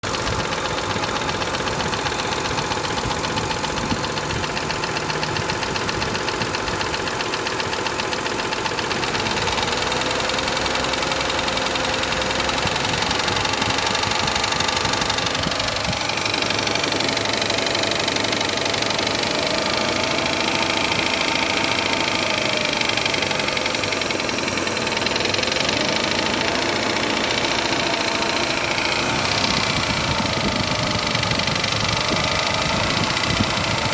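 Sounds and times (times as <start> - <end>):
engine running with regular knock: 0.0 - 33.9.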